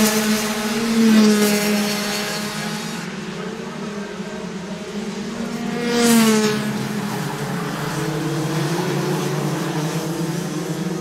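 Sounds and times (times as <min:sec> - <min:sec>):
kart engines racing: 0:00.0 - 0:11.0.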